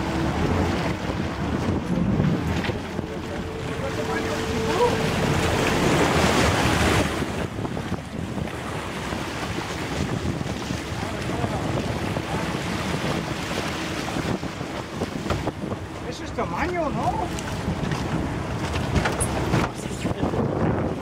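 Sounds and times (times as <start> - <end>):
water rushing and splashing: 0.0 - 21.0
wind buffeting microphone: 0.0 - 21.0.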